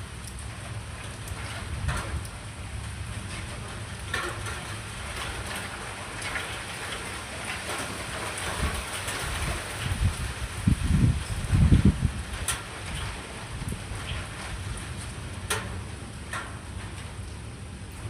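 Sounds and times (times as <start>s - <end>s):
low thunder rumble: 0.0s - 18.0s
rain falling: 0.0s - 18.0s.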